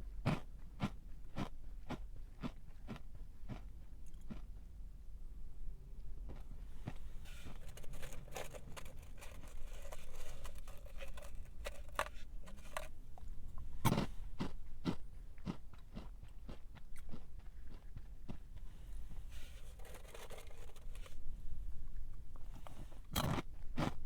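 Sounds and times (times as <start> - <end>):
crunchy snack chewing: 0.3 - 4.5, 6.3 - 18.4, 19.4 - 21.1, 22.6 - 24.0.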